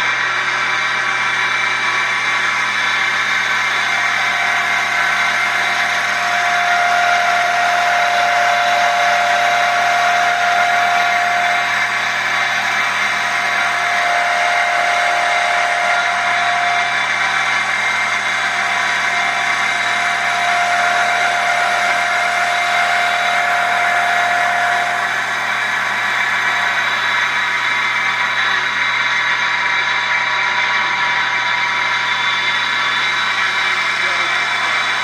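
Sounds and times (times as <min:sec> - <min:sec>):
thin motor whine: 0:00.0 - 0:35.0
wood lathe running: 0:00.0 - 0:35.0.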